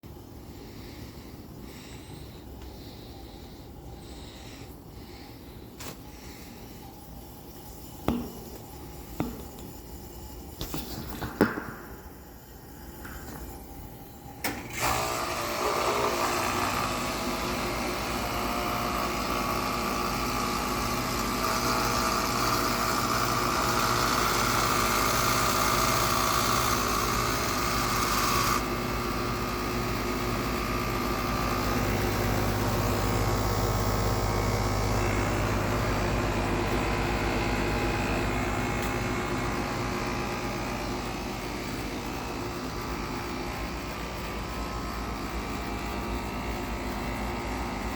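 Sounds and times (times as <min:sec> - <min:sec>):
hvac unit running hum: 0:00.0 - 0:47.9.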